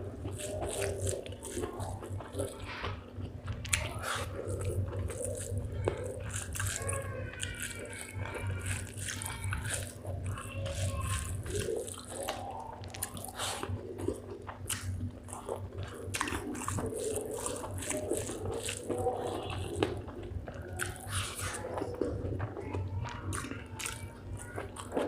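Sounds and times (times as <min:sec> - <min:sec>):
wet chewing and lip-smacking: 0:00.0 - 0:25.0.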